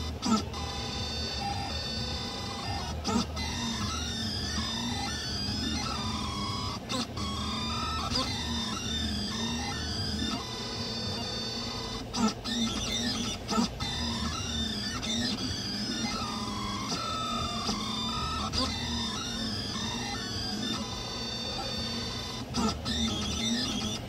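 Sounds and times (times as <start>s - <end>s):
steady hum: 0.0s - 24.0s
stepper motors whining: 0.0s - 24.0s.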